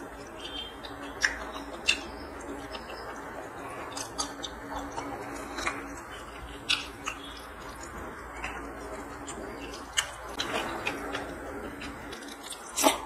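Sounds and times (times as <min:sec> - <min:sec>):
person chewing food: 0:00.0 - 0:13.0
wet lip-smacking clicks: 0:00.2 - 0:13.0.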